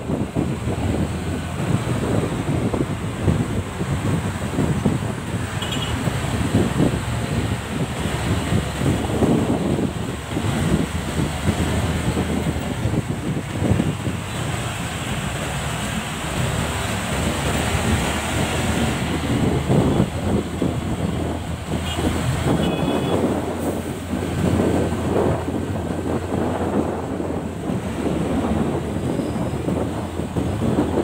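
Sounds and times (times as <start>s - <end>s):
motorcycle engine and road noise: 0.0s - 31.0s
wind buffeting microphone: 0.0s - 31.0s.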